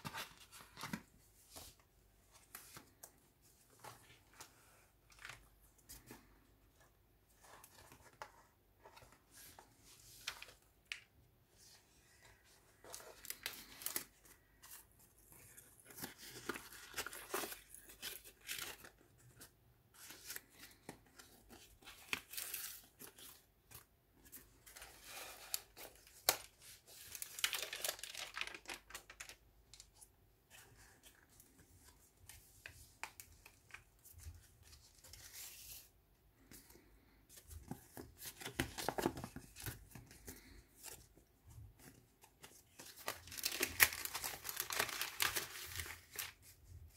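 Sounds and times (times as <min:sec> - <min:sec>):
paper rustling and crinkling: 0:00.0 - 0:46.9.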